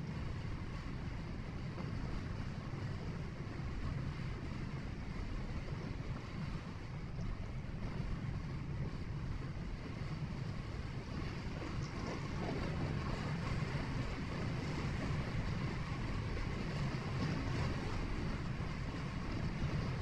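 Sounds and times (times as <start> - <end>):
road and wind noise hiss: 0.0 - 20.0.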